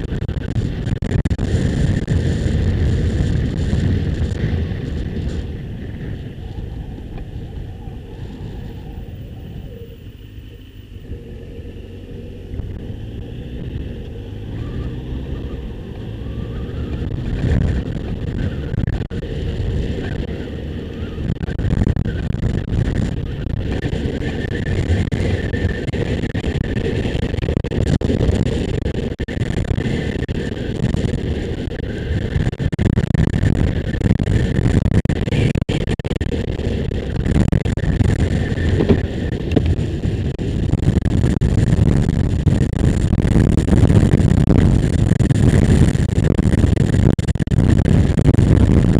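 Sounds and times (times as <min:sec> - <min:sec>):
motorcycle engine rumble: 0:00.0 - 0:48.9
wind noise on microphone: 0:00.0 - 0:48.9.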